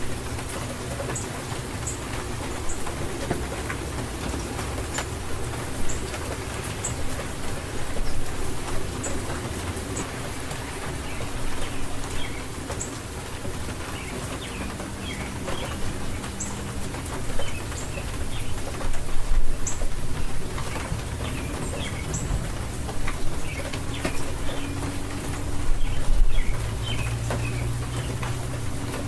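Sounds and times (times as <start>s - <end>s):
birds chirping: 0.0s - 29.0s
steady rain: 0.0s - 29.0s.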